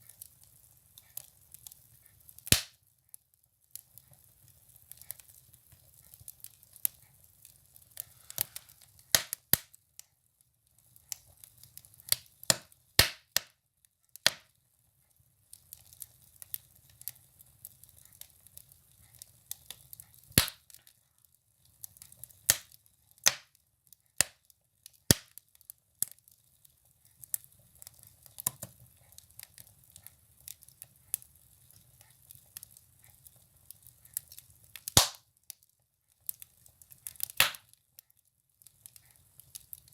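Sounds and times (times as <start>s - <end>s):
firewood crackling in a stove: 0.0s - 39.9s.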